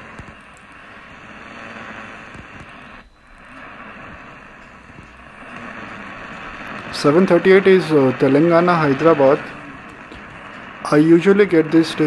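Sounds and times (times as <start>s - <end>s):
radio static and hiss: 0.0s - 12.0s
weak radio station: 0.0s - 12.0s.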